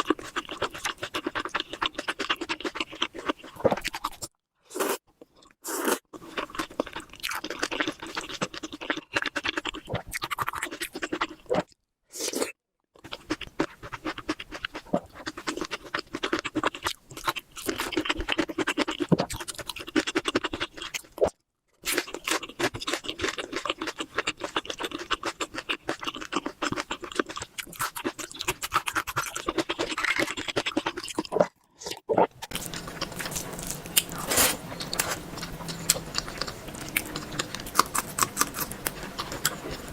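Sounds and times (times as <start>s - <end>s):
wet crunchy chewing: 0.0s - 21.3s, 21.9s - 39.9s.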